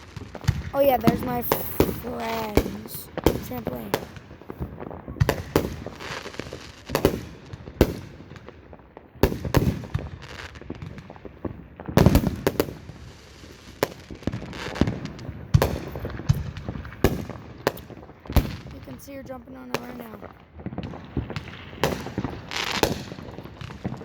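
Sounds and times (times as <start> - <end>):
distant fireworks bangs: 0.0 - 24.0
fireworks crackling: 0.0 - 24.0.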